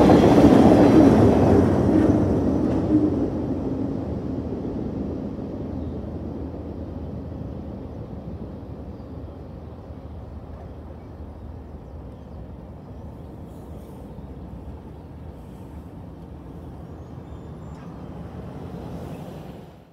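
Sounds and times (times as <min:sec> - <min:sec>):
freight train rumbling: 0:00.0 - 0:19.9.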